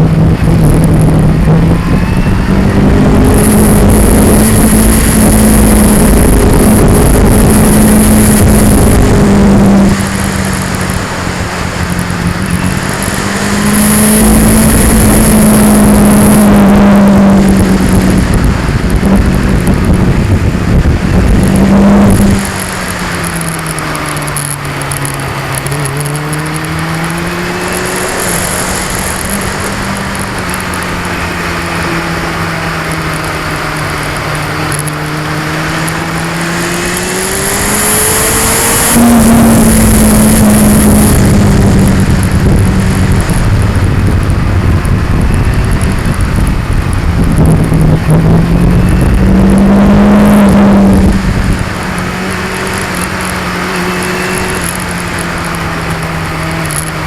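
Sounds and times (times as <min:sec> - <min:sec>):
loud rushing noise: 0:00.0 - 0:57.0
motorcycle engine running: 0:00.0 - 0:57.0.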